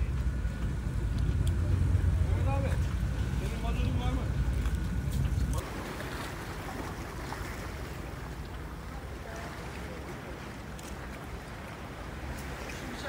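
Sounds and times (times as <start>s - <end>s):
wind: 0.0s - 13.0s
sea water washing and splashing: 0.2s - 13.0s.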